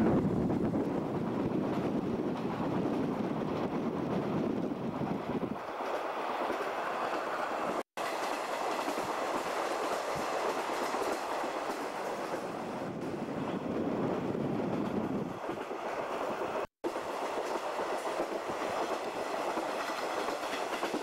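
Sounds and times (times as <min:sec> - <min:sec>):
train wheels rushing on rails: 0:00.0 - 0:21.0
clacks over rail joints: 0:00.6 - 0:13.5, 0:14.7 - 0:21.0.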